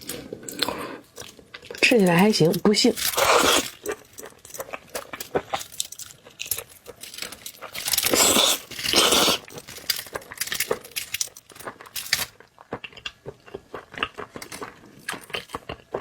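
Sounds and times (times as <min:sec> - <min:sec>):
wet chewing and smacking: 0:02.6 - 0:16.0.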